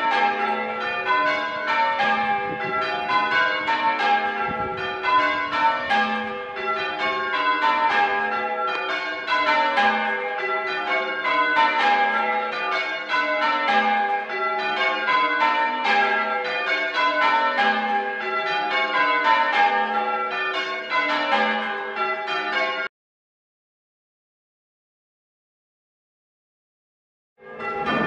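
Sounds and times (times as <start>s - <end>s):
church bells ringing changes: 0.0s - 22.9s, 27.4s - 28.0s.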